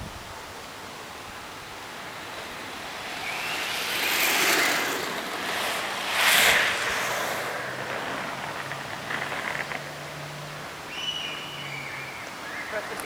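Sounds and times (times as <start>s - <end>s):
skateboard wheels rolling on asphalt: 0.0s - 13.0s.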